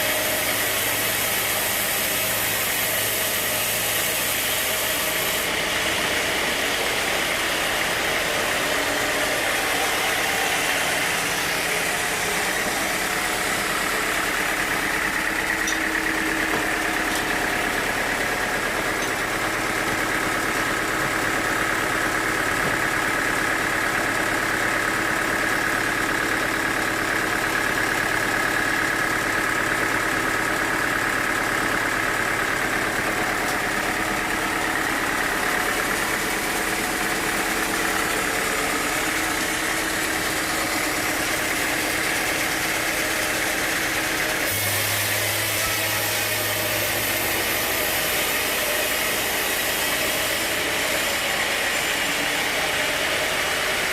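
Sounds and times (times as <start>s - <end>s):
high mechanical whine: 0.0s - 26.4s, 27.2s - 53.9s
sawmill machinery drone: 0.0s - 53.9s.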